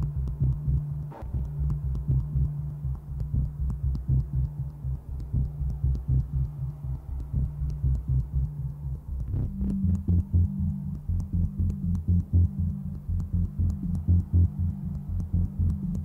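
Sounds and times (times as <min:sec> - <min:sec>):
faint ticks: 0:00.0 - 0:16.0
low humming drone: 0:00.0 - 0:16.0
throbbing heartbeat pulse: 0:00.0 - 0:16.0.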